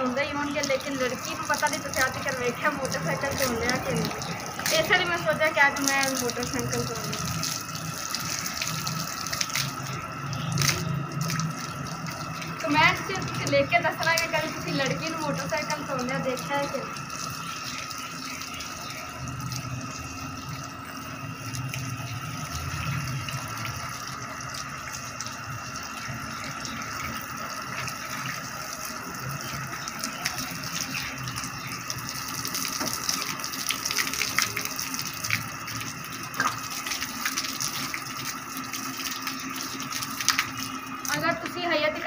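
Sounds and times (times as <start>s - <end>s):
hose water splashing: 0.0s - 42.0s
steady hum: 0.0s - 42.0s
water dripping: 0.0s - 42.0s.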